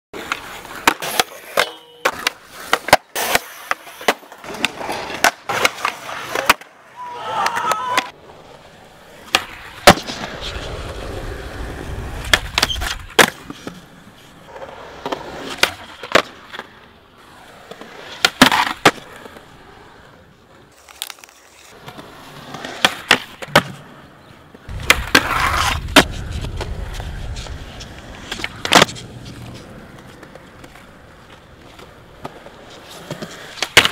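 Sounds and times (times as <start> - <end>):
skateboard wooden cracks: 0.2 - 8.2, 9.2 - 11.1, 12.2 - 19.5, 20.6 - 23.9, 24.5 - 33.9
skateboard wheels rolling: 0.2 - 33.9.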